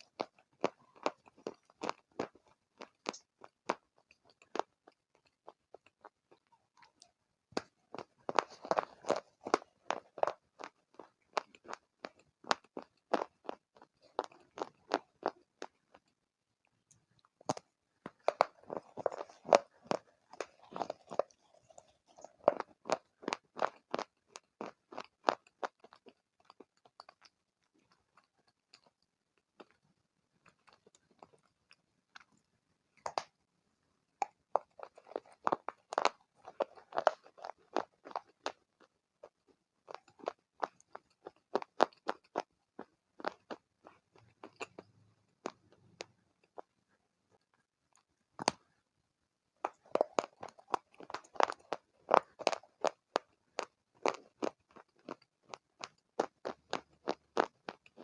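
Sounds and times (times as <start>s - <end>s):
crunching and chewing shale: 0.0s - 33.5s, 34.2s - 48.8s, 49.6s - 58.0s.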